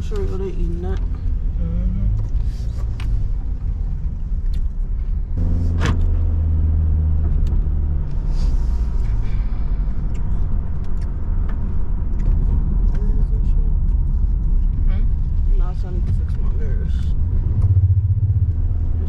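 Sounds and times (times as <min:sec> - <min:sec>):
car engine rumble and road noise: 0:00.0 - 0:19.0.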